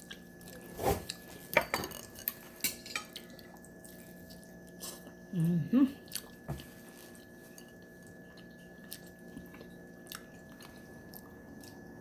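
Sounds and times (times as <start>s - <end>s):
chewing food: 0.0s - 12.0s
faint background hum: 0.0s - 12.0s.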